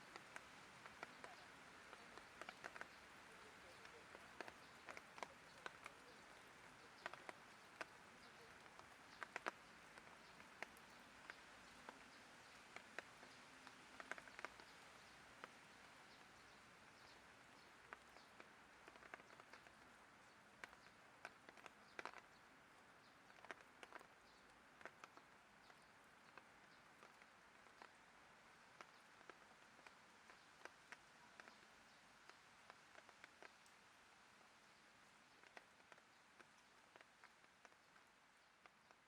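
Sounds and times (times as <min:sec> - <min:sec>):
faint rain hiss: 0:00.0 - 0:39.0
raindrops tapping: 0:00.0 - 0:39.0.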